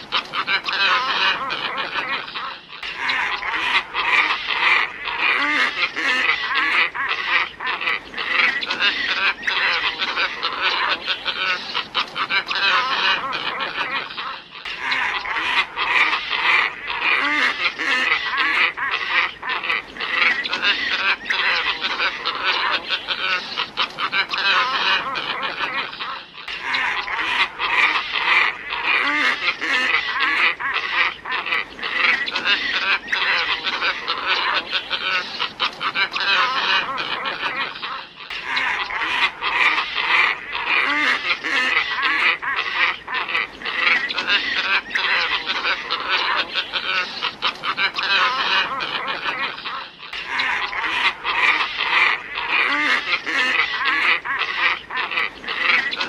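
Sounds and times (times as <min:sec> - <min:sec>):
flock of birds calling: 0:00.0 - 0:56.0.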